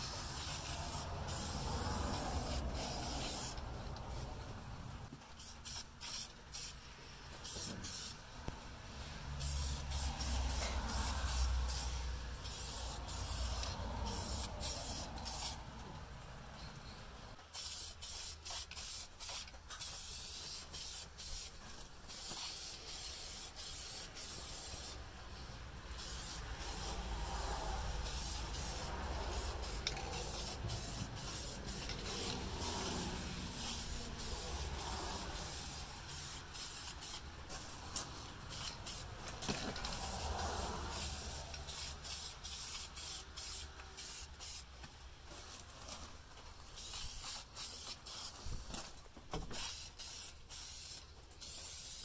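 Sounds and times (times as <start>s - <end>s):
spray paint can hissing: 0.0s - 4.3s, 5.3s - 8.2s, 9.0s - 15.6s, 17.4s - 25.0s, 25.9s - 44.7s, 46.6s - 48.6s, 49.5s - 52.0s.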